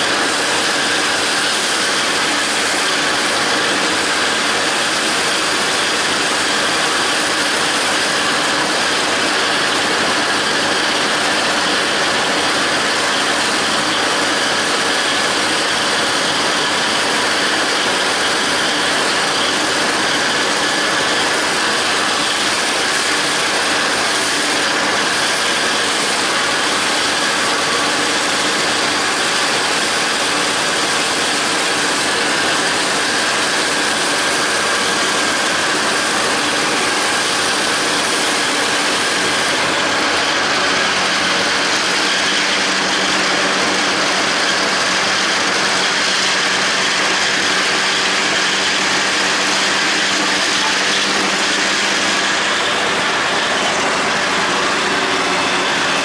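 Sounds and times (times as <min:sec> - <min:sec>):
mower cutter discs whirring: 0:00.0 - 0:56.0
tractor diesel engine running: 0:00.0 - 0:56.0.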